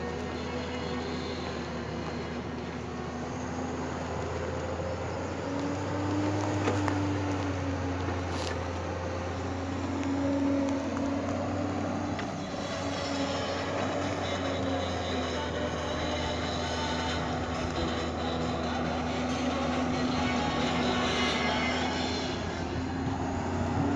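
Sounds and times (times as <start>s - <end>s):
excavator diesel engine under load: 0.0s - 23.9s.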